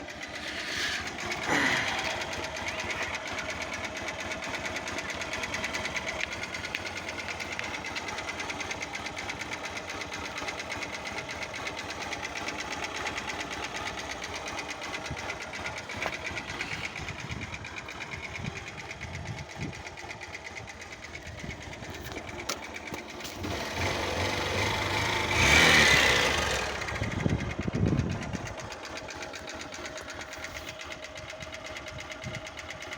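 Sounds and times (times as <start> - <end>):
motorcycle engine revving: 0.0 - 32.9
motorcycle engine idling with knock: 0.1 - 25.4, 26.1 - 32.9.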